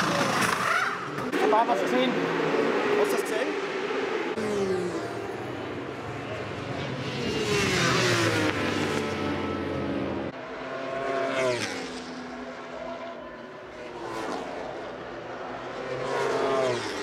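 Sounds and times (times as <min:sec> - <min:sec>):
superbike engines passing at high revs: 0:00.0 - 0:17.0.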